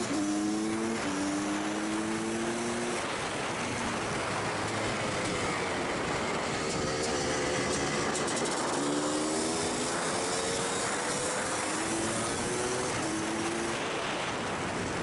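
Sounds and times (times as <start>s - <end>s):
motorcycle engine accelerating: 0.0s - 14.2s
wind rush on microphone: 0.0s - 15.0s.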